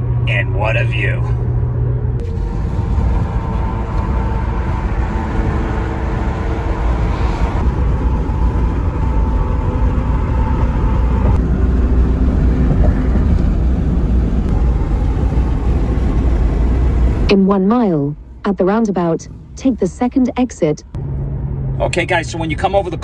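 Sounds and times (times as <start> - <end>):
road and tyre rumble in car: 0.0 - 20.1, 20.9 - 23.0.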